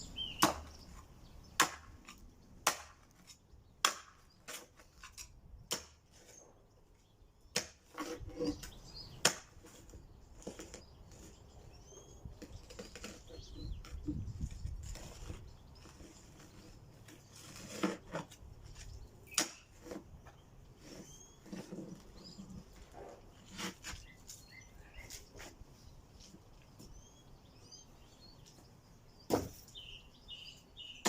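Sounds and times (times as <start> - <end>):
faint birds chirping: 0.0 - 31.0.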